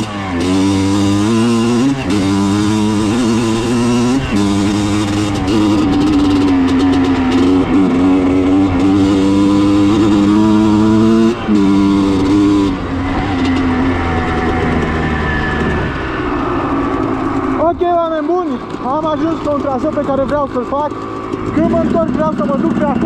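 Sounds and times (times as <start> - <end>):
two-stroke dirt bike engine: 0.0 - 23.0.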